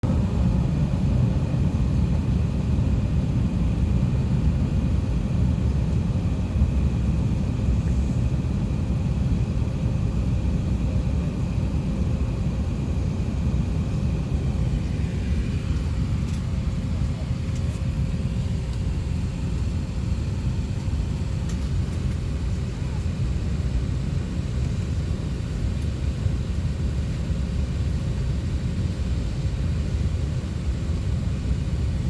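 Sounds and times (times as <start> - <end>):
aircraft cabin rumble: 0.0 - 32.0.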